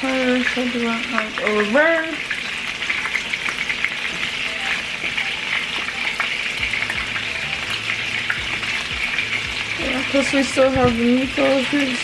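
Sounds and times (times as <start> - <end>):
meatballs sizzling in oil: 0.0 - 12.0.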